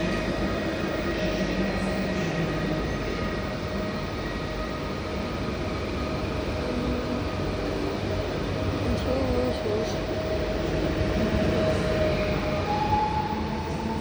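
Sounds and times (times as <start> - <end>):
faint steady tones: 0.0 - 14.0
train running on rails: 0.0 - 14.0.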